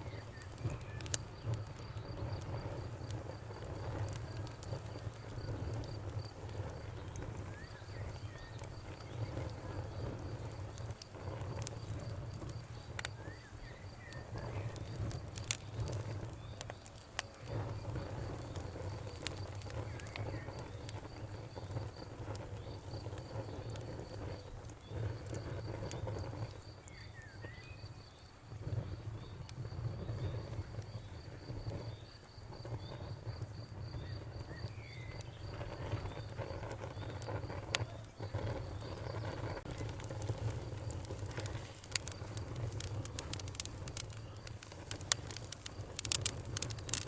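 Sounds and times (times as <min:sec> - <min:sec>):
crickets trilling: 0:00.0 - 0:47.0
wood fire crackling: 0:00.0 - 0:47.0.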